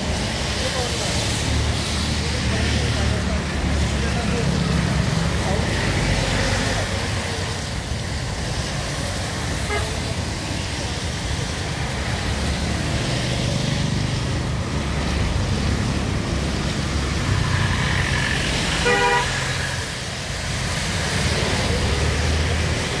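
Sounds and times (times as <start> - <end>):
traffic engine rumble: 0.0 - 23.0
tyre hiss on wet road: 0.0 - 23.0.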